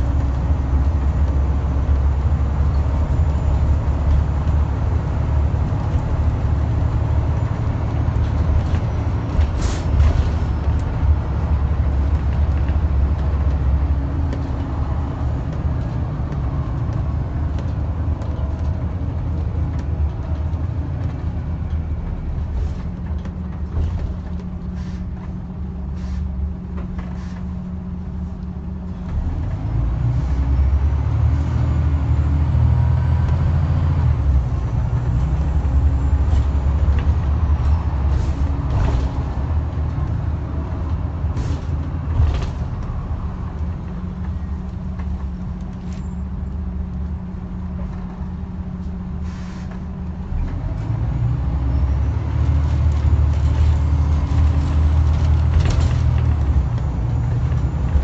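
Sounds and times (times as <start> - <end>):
bus body rattles and clicks: 0.0 - 58.0
bus engine drone: 0.0 - 58.0.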